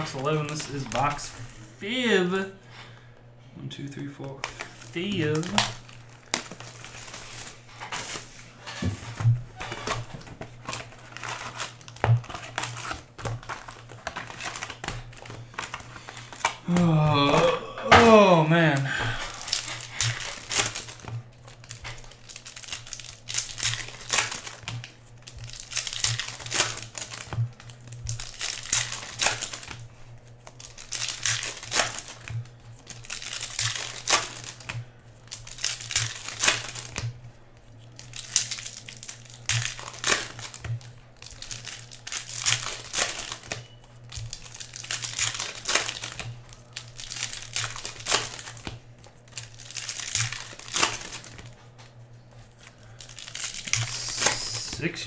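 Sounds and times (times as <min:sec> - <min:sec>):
foil card wrappers crinkling: 0:00.0 - 0:03.1, 0:04.2 - 0:55.0
faint electrical hum: 0:00.0 - 0:55.0.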